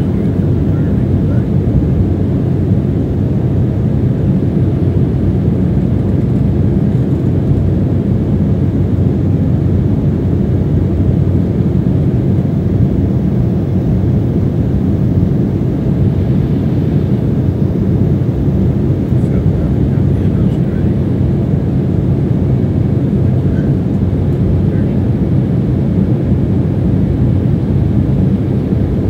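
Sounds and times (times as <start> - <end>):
airliner cabin engine drone: 0.0 - 29.0.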